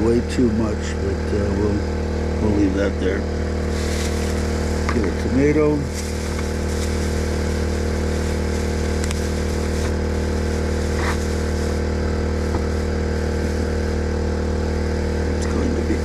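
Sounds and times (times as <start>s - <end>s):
portable generator engine humming: 0.0s - 16.0s.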